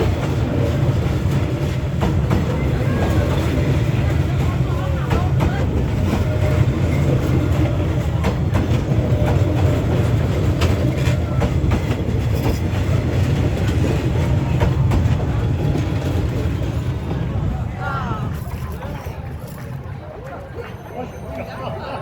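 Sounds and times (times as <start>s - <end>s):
wheels clacking over rail joints: 0.0s - 17.6s
train wheels rumbling on rails: 0.0s - 22.0s.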